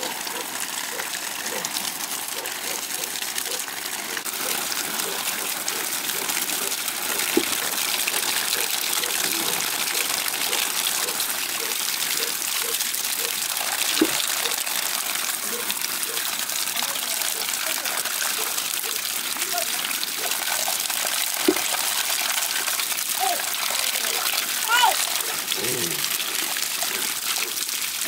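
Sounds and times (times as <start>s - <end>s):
water pouring onto concrete: 0.0s - 28.0s
water splashing over greens: 0.0s - 28.0s.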